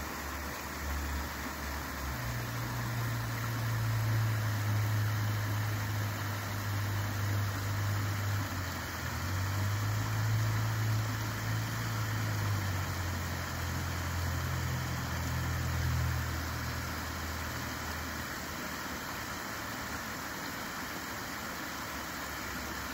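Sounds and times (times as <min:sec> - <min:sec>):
low engine hum: 0:00.0 - 0:22.9
water rushing over dam: 0:00.0 - 0:22.9.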